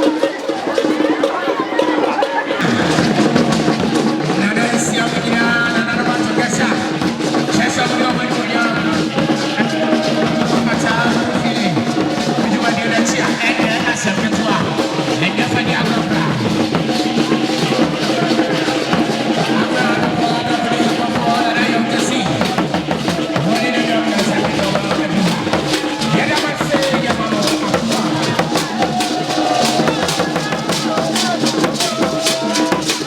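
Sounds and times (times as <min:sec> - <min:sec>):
drums and percussion: 0:00.0 - 0:33.0
wavering voices: 0:00.0 - 0:33.0.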